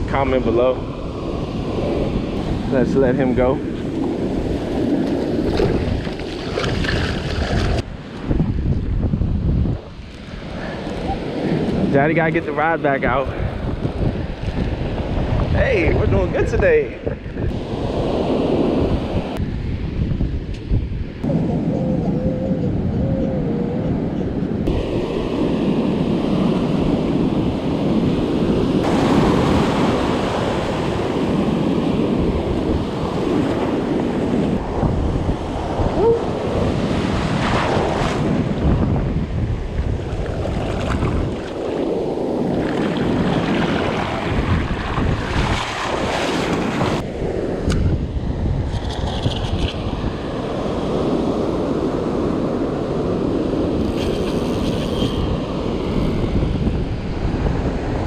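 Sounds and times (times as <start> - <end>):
ocean surf breaking on sand: 0.0 - 8.3, 10.1 - 19.9, 24.6 - 48.7, 49.5 - 58.0
wind buffeting microphone: 0.0 - 58.0.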